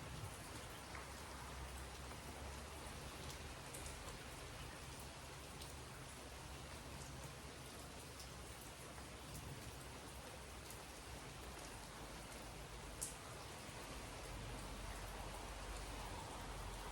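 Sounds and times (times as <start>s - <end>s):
faint rain falling: 0.0s - 16.9s
raindrops ticking: 0.2s - 16.1s.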